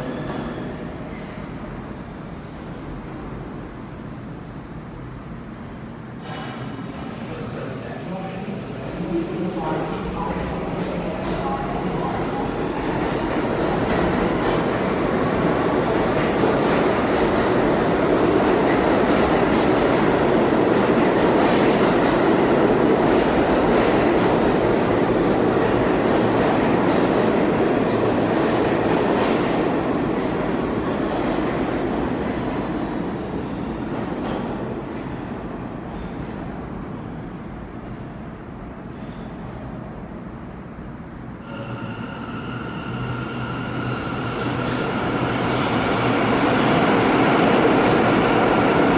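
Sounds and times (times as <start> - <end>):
subway train rumbling: 0.0 - 48.9.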